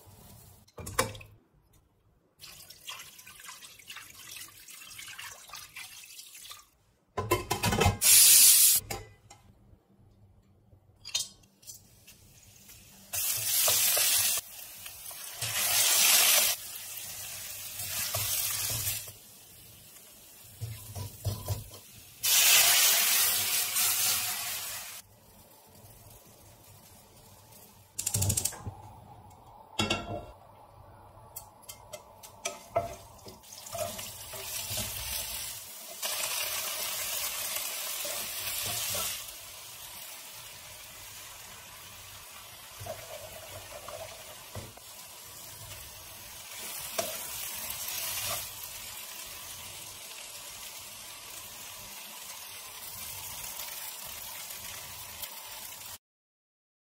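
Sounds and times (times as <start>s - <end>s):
cooking sounds in steel pan: 0.0s - 1.1s, 2.4s - 9.6s, 10.9s - 56.0s.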